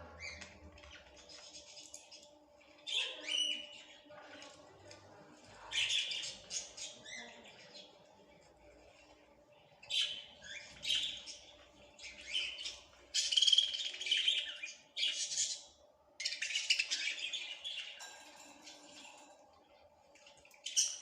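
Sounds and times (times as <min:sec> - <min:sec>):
songbirds chirping and singing: 0:00.0 - 0:21.0.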